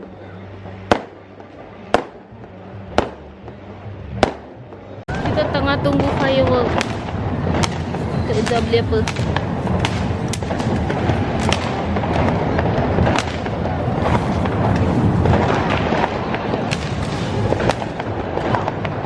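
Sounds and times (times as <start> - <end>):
loud wash of noise: 0.0 - 19.0
firecrackers cracking and banging: 0.6 - 3.2, 4.2 - 19.0.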